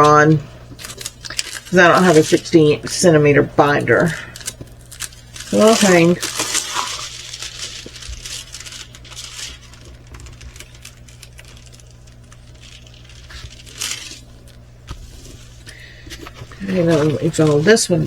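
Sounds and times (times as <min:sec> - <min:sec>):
canvas rustling and crinkling: 0:00.0 - 0:18.0
low steady hum: 0:00.0 - 0:18.0.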